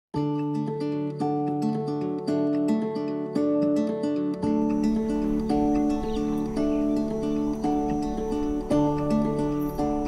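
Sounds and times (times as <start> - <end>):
plucked acoustic guitar: 0.2 - 10.0.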